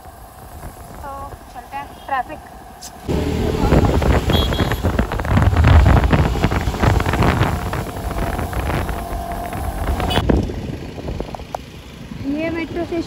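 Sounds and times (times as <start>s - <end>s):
wind buffeting microphone: 0.0s - 11.6s
motorcycle engine rumble: 0.0s - 13.0s
surrounding traffic: 0.0s - 13.0s.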